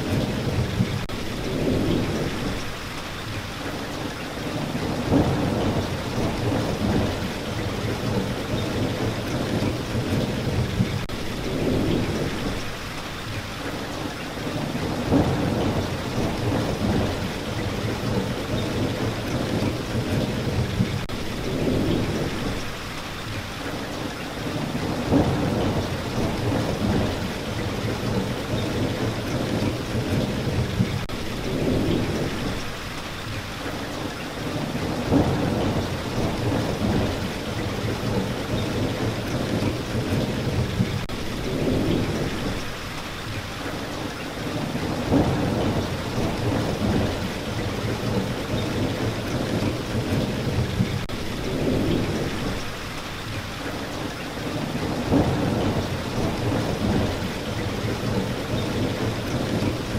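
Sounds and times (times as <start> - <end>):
low rumbling thunder: 0.0 - 2.8, 4.4 - 12.8, 14.5 - 22.8, 24.4 - 32.8, 34.4 - 42.8, 44.4 - 52.8, 54.4 - 59.9
steady rain falling: 0.0 - 59.9.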